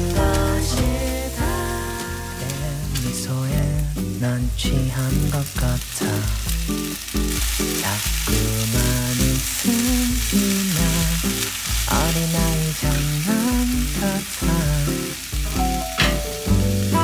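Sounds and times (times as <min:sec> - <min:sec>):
background music with bass beat: 0:00.0 - 0:17.0
food sizzling in a pan: 0:00.0 - 0:17.0.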